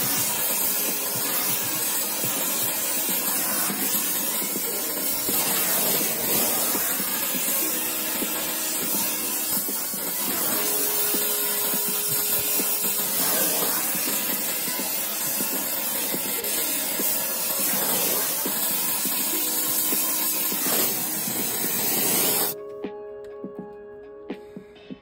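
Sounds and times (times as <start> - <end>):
torch flame hissing: 0.0 - 22.6.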